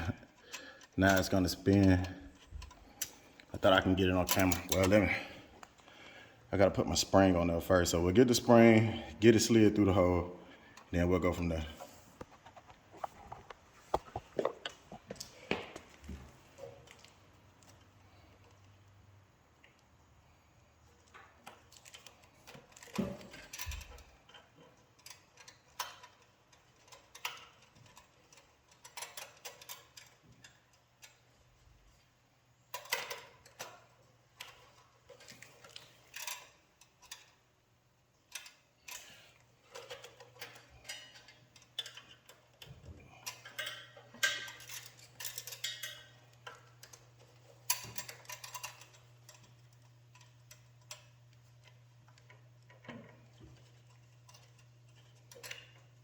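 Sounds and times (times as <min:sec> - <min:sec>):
small clicks and rattles: 0:00.0 - 0:06.2, 0:07.9 - 0:20.0, 0:20.8 - 0:56.0.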